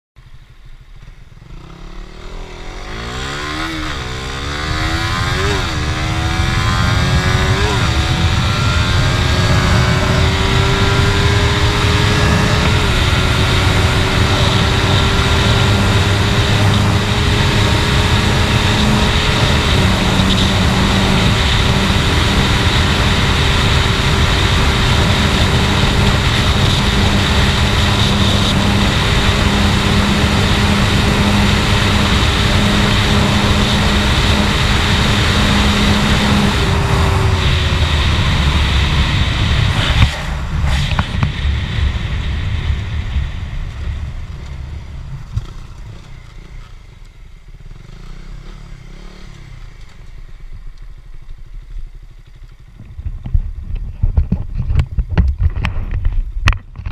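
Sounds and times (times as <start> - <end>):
motorcycle engine accelerating: 0.2 - 56.9
wind noise on microphone: 3.0 - 46.6, 52.7 - 56.9.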